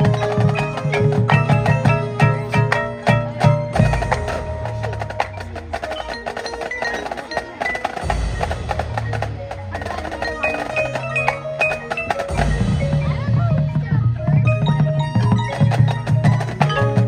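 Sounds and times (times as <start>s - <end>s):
quick mallet percussion notes: 0.0s - 17.0s.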